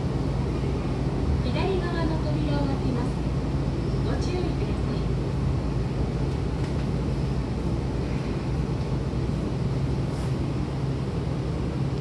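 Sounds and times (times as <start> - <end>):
electric train hum: 0.0 - 12.0.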